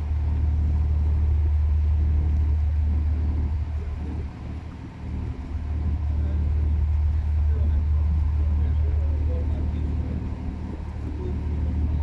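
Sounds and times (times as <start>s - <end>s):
ship diesel engine hum: 0.0s - 12.0s.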